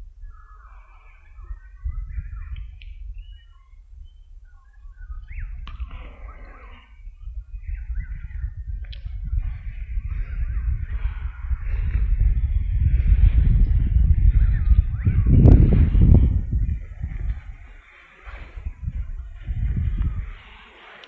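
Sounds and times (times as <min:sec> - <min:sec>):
birds chirping and singing: 0:00.0 - 0:21.0
rising whistled bird notes: 0:00.0 - 0:21.0
wind rumble on microphone: 0:00.0 - 0:21.0.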